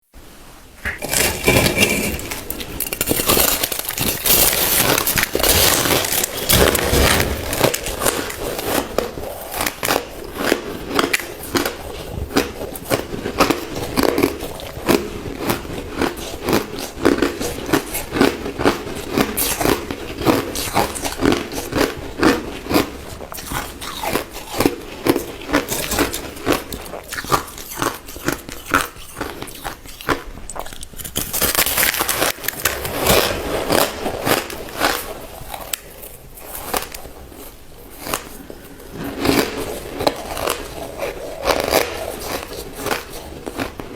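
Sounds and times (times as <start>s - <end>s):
chewing crushed ice: 1.0s - 43.9s.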